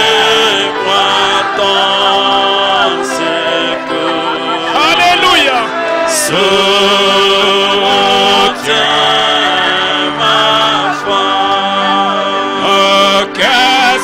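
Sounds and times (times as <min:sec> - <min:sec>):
church worship singing: 0:00.0 - 0:14.0.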